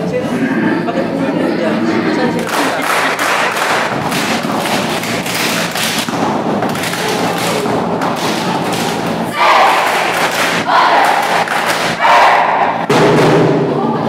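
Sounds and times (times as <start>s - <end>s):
crowd noise: 0.0s - 14.0s
stomping and clapping in rhythm: 2.4s - 13.8s.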